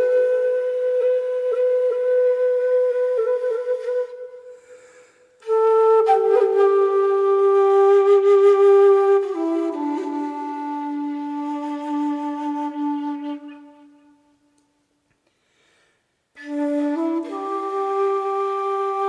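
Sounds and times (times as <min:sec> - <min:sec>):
slow flute-like melody: 0:00.0 - 0:14.8, 0:16.3 - 0:19.0.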